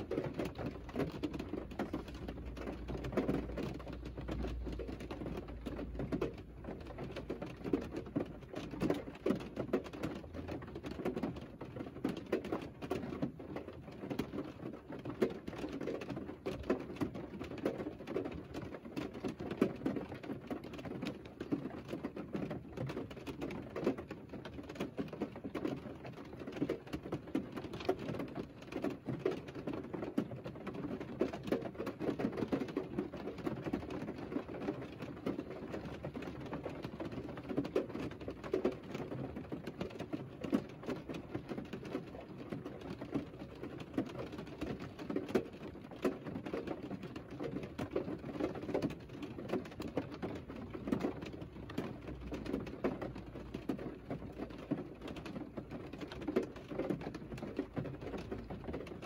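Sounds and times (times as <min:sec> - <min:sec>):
rain pattering on car roof: 0:00.0 - 0:59.0.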